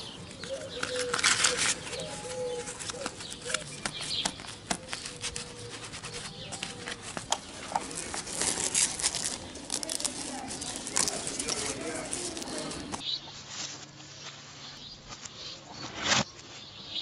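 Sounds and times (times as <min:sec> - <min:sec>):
plastic and fabric rustling: 0:00.0 - 0:15.2.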